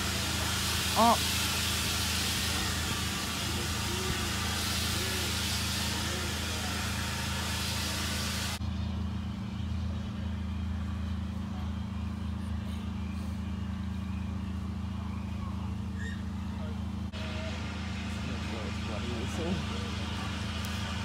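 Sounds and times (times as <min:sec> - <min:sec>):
train rolling noise: 0:00.0 - 0:16.0, 0:17.0 - 0:21.0.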